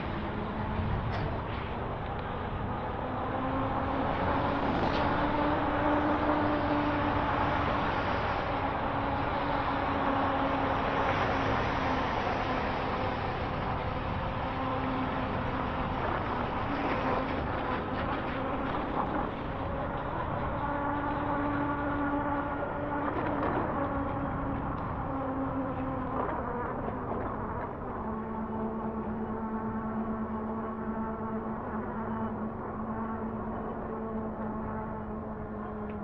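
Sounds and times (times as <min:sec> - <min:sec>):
steady rushing noise: 0:00.0 - 0:36.0.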